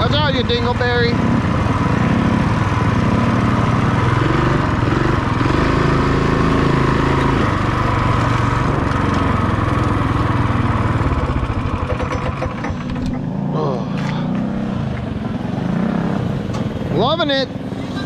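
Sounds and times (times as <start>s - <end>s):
minibike engine revving: 0.0s - 18.0s.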